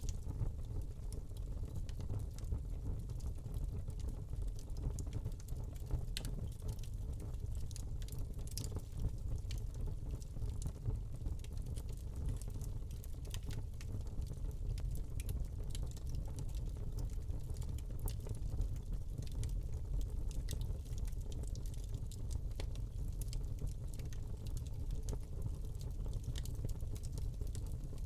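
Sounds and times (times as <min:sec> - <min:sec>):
log fire crackling: 0:00.1 - 0:28.0.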